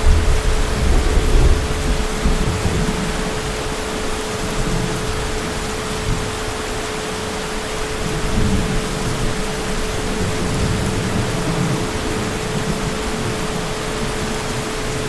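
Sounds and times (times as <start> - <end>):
distant thunder rumble: 0.0 - 15.0
heavy rain hissing: 0.0 - 15.0.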